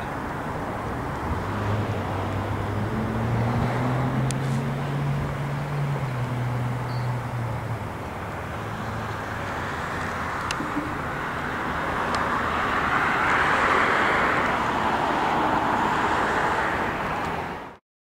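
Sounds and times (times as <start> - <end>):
passing vehicle engine hum: 0.0 - 17.8.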